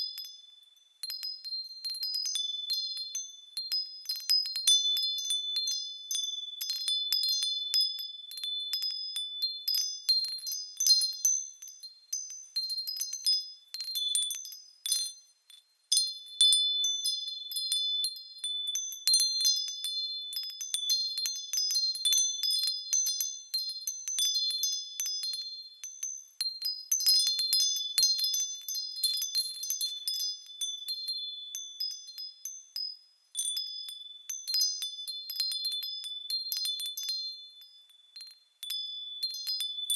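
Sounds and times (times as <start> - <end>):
small metal bells ringing: 0.0 - 39.9.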